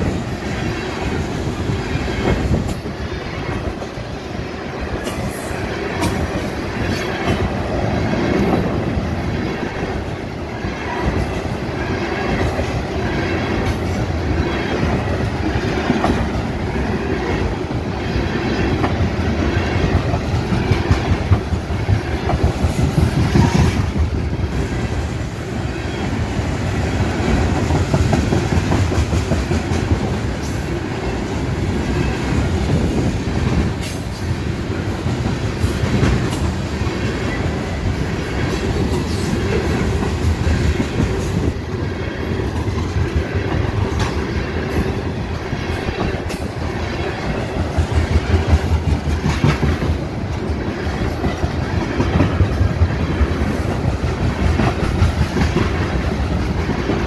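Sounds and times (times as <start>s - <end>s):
rumble of steel wheels on rail: 0.0s - 57.0s
wheels clickety-clack over joints: 4.8s - 24.2s, 27.0s - 41.6s, 42.4s - 57.0s.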